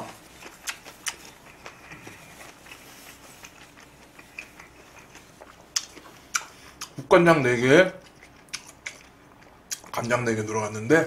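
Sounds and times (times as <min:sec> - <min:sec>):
person chewing: 0:00.0 - 0:07.0, 0:08.0 - 0:10.0.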